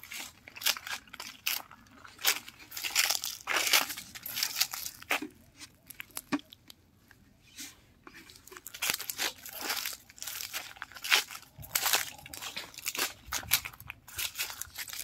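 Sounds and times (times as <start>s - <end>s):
footsteps crunching through dry leaves: 0.0s - 6.3s, 8.3s - 15.0s.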